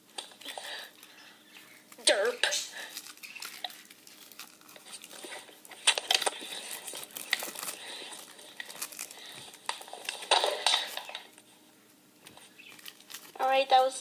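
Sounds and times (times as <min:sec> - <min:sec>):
recording device handling noise: 0:00.0 - 0:13.4.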